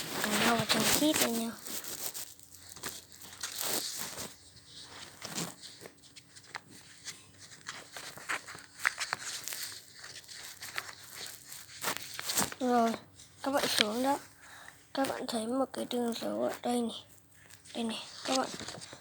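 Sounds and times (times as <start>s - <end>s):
paper rustling and crinkling: 0.0s - 14.3s, 17.4s - 19.0s.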